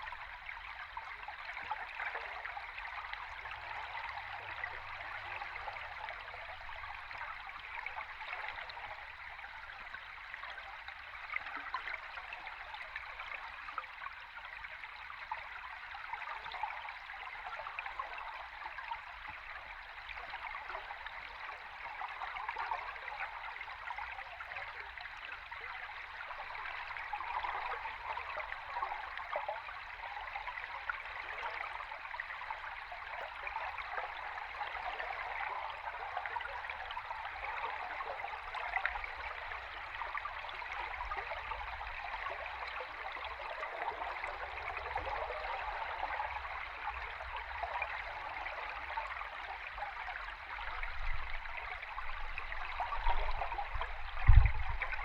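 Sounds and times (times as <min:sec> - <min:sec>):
stream flowing heard underwater: 0:00.0 - 0:55.0.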